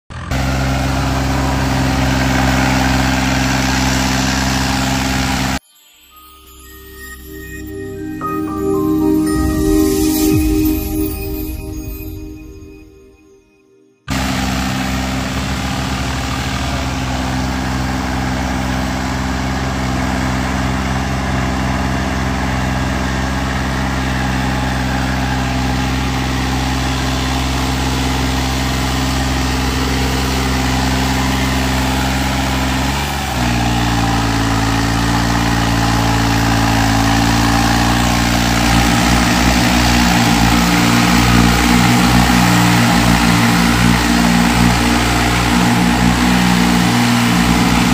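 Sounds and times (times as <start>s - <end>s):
tractor diesel engines under load: 0.0s - 5.6s, 14.1s - 47.9s.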